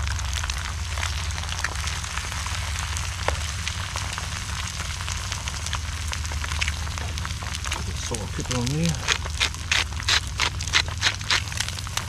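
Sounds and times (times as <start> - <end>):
fritter sizzling in oil: 0.0 - 12.0
steady low rumble: 0.0 - 12.0.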